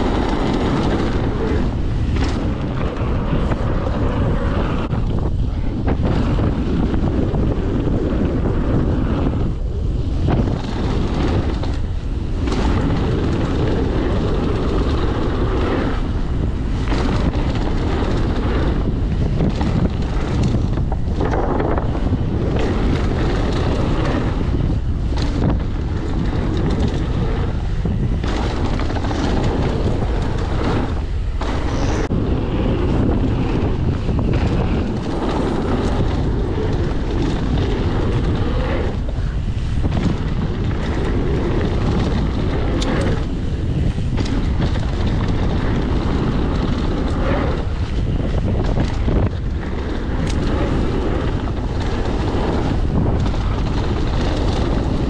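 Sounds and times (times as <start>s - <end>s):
bike tyres rumbling on dirt: 0.0s - 55.0s
wind buffeting microphone: 0.0s - 55.0s.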